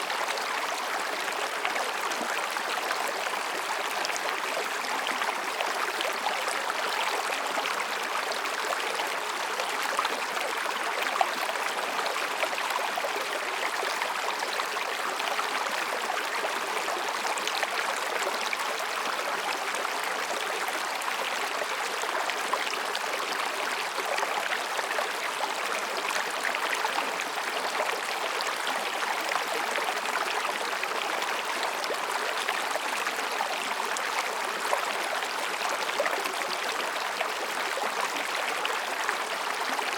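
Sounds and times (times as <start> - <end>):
mountain stream babbling over rocks: 0.0 - 39.9.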